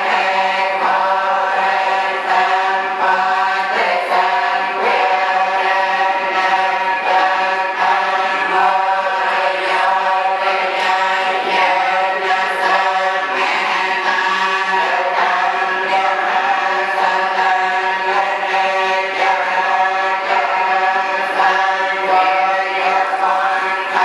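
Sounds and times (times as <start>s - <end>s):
monks chanting in unison: 0.0s - 24.0s.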